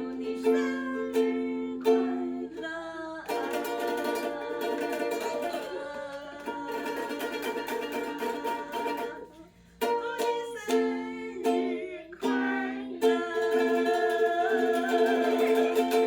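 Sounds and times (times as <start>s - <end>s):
ukulele strumming: 0.0s - 16.0s.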